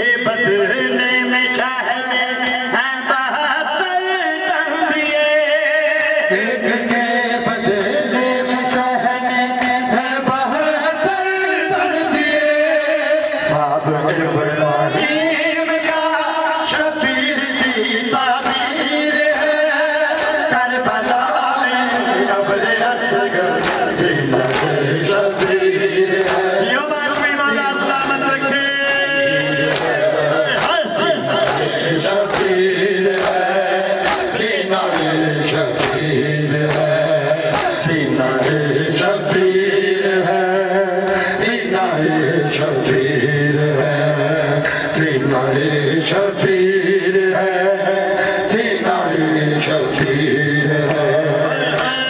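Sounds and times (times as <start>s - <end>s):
man chanting into a microphone: 0.0s - 52.0s
rhythmic chest-beating slaps: 0.1s - 52.0s.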